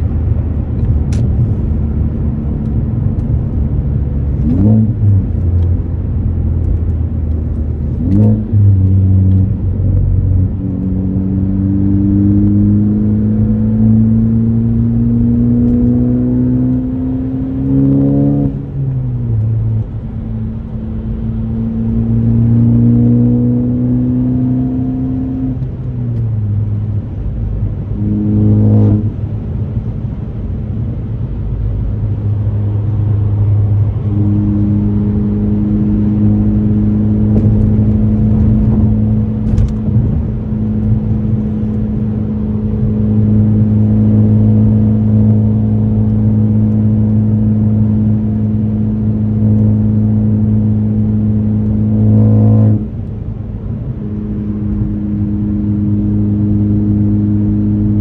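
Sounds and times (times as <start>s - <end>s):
car exhaust droning while driving: 0.0s - 58.0s.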